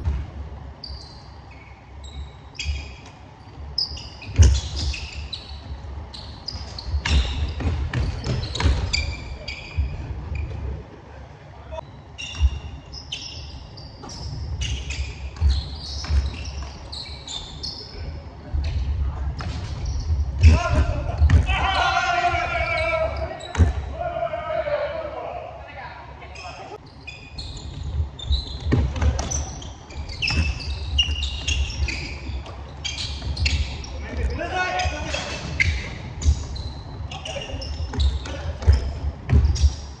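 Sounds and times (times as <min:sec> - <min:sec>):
sneakers squeaking: 0:00.0 - 0:24.0, 0:26.2 - 0:40.0.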